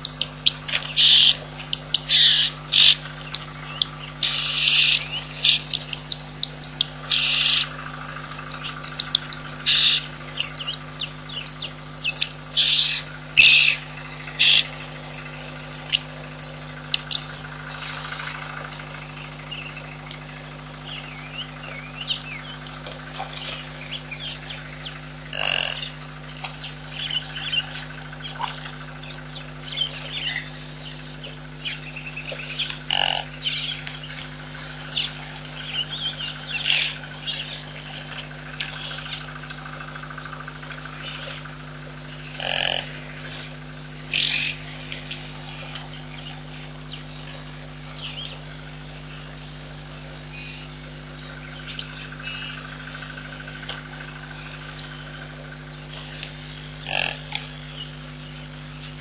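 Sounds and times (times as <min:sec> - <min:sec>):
birds chirping and calling: 0:00.0 - 0:59.0
steady low hum: 0:00.0 - 0:59.0.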